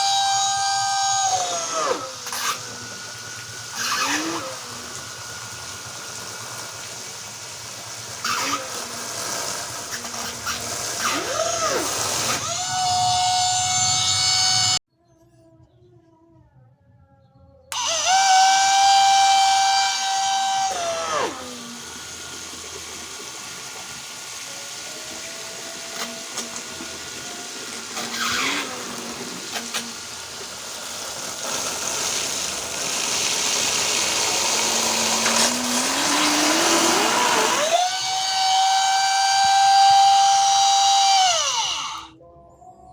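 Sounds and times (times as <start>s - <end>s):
electric motor whining: 0.0s - 14.8s, 17.7s - 42.2s
water pump rushing hiss: 0.0s - 14.8s, 17.8s - 42.1s.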